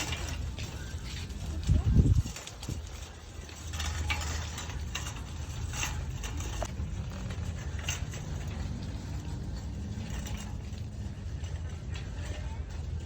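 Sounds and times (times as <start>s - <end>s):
clicking and rattling: 0.0s - 13.0s
steady low rumble: 0.0s - 13.0s.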